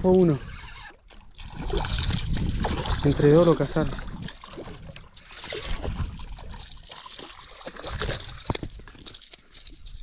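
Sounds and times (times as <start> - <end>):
water trickling and sloshing: 0.0 - 10.0.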